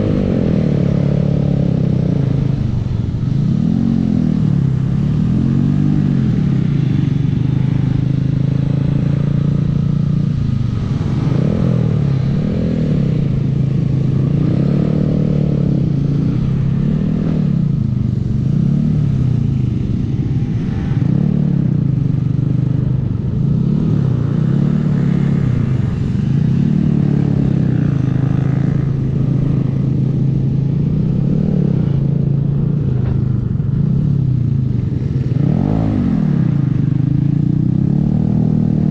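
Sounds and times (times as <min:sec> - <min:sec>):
low wind rumble: 0:00.0 - 0:38.9
minibike engine accelerating: 0:00.0 - 0:38.9.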